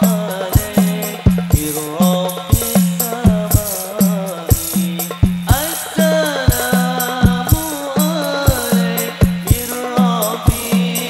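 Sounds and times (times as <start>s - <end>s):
frame drums beating: 0.0s - 11.0s
men singing devotional melody: 0.0s - 11.0s.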